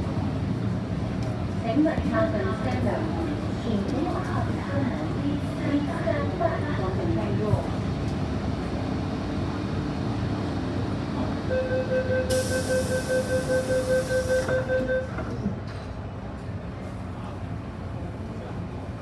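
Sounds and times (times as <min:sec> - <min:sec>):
train carriage hum: 0:00.0 - 0:19.0.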